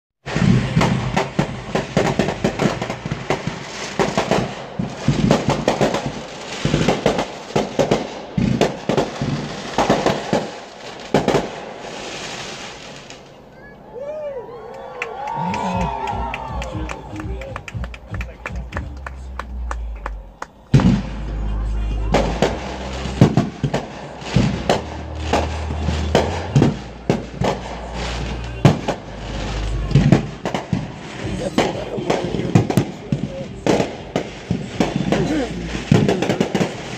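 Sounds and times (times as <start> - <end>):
deep fireworks booms: 0.2 - 14.1, 15.1 - 36.9
fireworks bursting and crackling: 0.2 - 36.9.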